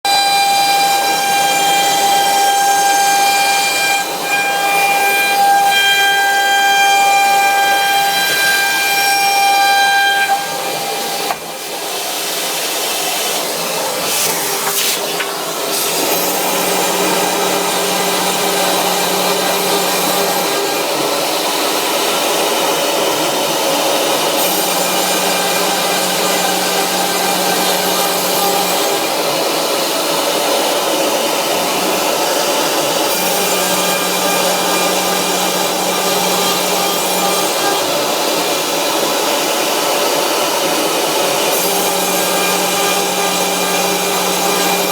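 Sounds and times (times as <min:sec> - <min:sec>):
router spindle high whine: 0:00.1 - 0:44.9.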